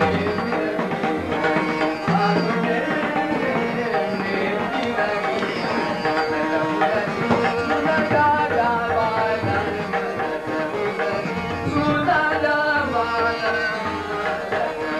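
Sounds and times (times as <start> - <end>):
harmonium: 0.0 - 14.9
man singing: 0.0 - 14.9
tabla: 0.0 - 14.9.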